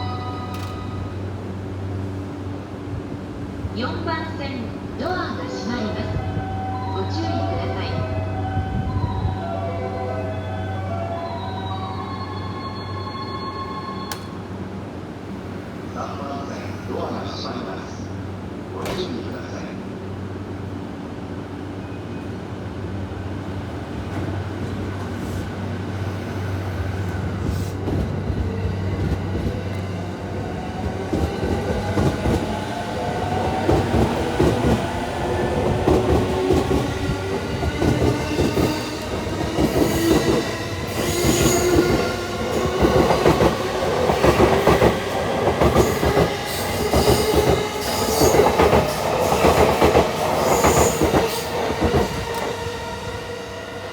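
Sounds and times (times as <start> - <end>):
low train hum: 0.0 - 53.9.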